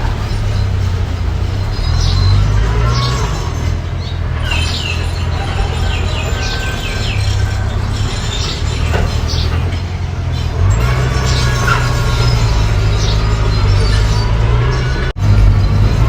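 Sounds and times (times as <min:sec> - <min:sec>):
high chirping squeaks: 0:00.0 - 0:15.8
bulldozer engine running: 0:00.0 - 0:16.0.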